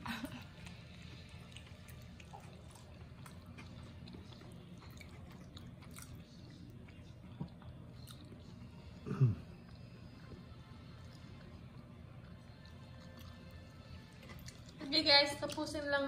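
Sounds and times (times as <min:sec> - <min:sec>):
room hum: 0:00.0 - 0:16.0
person chewing: 0:00.5 - 0:14.8.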